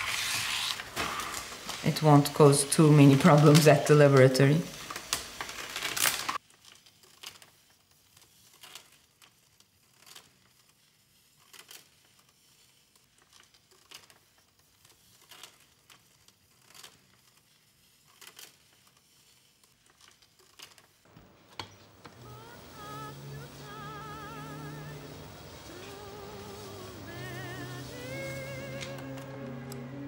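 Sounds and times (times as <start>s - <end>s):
film crackling as unwound: 0.0s - 21.1s, 21.9s - 30.0s.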